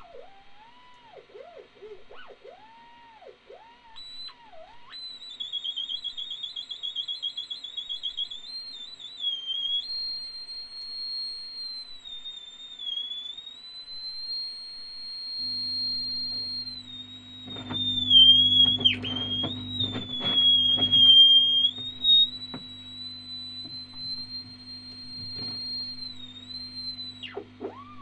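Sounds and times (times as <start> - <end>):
theremin tone with vibrato: 0.0 - 28.0.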